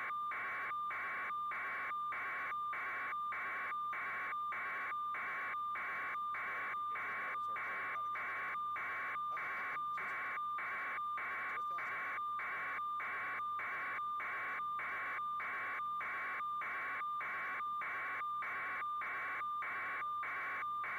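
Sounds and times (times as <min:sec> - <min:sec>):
chopped hiss with beep tone: 0:00.0 - 0:20.9.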